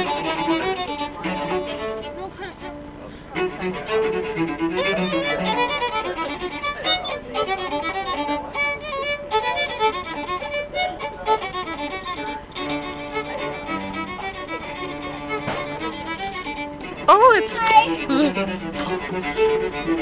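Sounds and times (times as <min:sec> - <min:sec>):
violin melody: 0:00.0 - 0:20.0.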